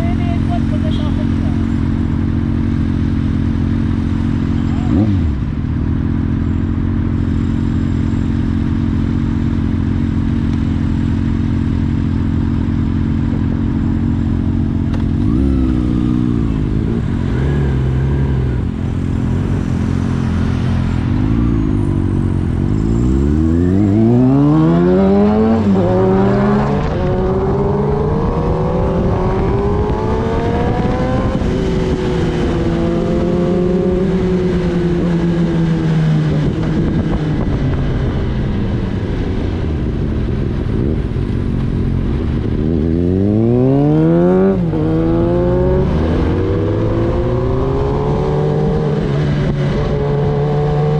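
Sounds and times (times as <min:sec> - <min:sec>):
motorcycle engine idling and revving: 0:00.0 - 0:50.9
motorcycle accelerating through gears: 0:00.6 - 0:50.9.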